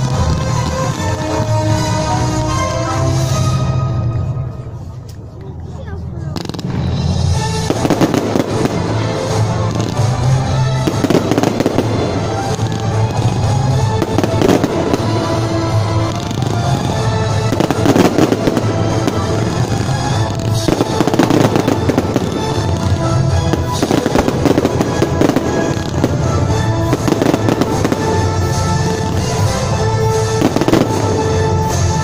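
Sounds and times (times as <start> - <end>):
fireworks banging and crackling: 0.0 - 3.4, 6.3 - 32.0
music playing: 0.0 - 32.0.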